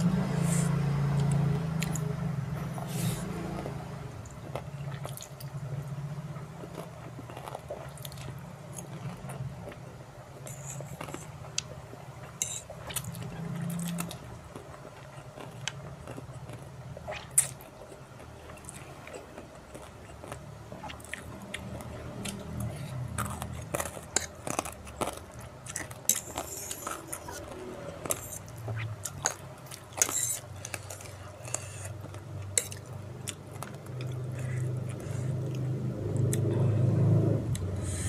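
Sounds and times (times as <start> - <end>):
chewing with wet clicks: 1.1 - 2.7, 3.5 - 5.9, 6.6 - 36.8, 37.5 - 37.9.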